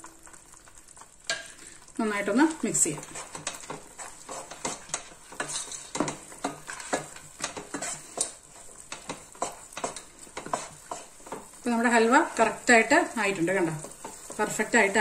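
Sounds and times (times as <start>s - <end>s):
wooden spatula scraping a pan: 2.2s - 15.0s.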